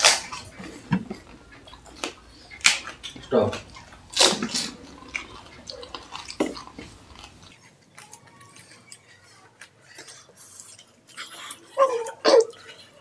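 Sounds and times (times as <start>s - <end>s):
chewing mouth noises: 0.0s - 13.0s.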